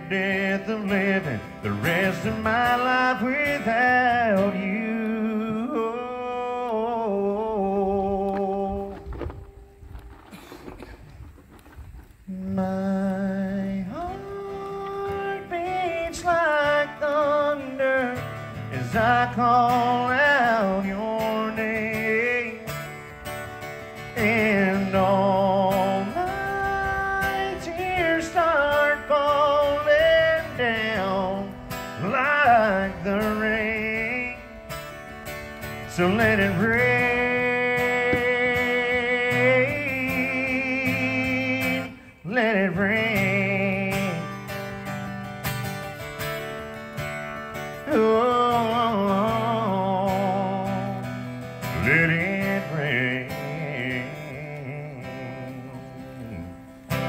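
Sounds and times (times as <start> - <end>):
man singing: 0.0 - 9.8, 12.3 - 23.1, 23.8 - 35.0, 35.6 - 44.9, 47.6 - 57.0
acoustic guitar: 0.0 - 57.0.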